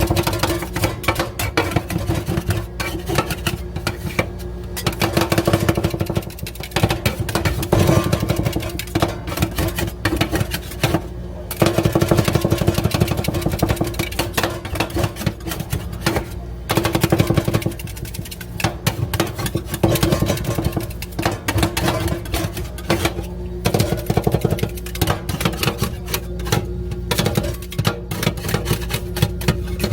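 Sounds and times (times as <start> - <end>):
metal spatulas striking steel plate: 0.0 - 29.9
steady hum: 0.0 - 29.9.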